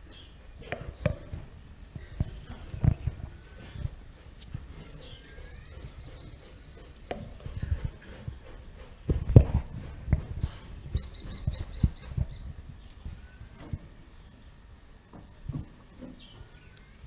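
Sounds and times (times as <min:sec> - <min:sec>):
low thumps and rumble: 0:00.0 - 0:14.0
bird chirping: 0:00.0 - 0:17.0.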